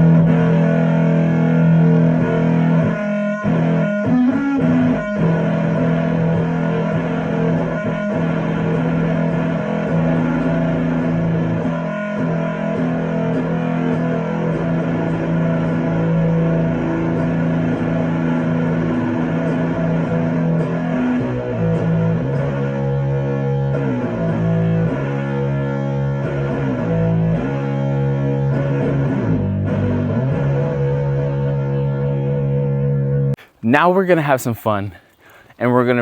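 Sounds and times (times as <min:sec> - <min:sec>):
fuzzed electric guitar notes: 0:00.0 - 0:33.5.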